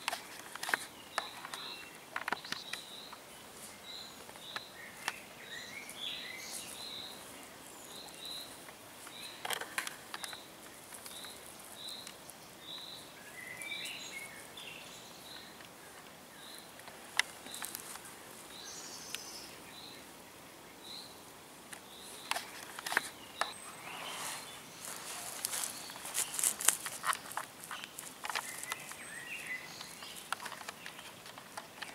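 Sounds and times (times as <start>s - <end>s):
rustling of dry grass and twigs: 0.0s - 31.9s
bird chirps: 0.7s - 16.8s, 21.8s - 31.9s.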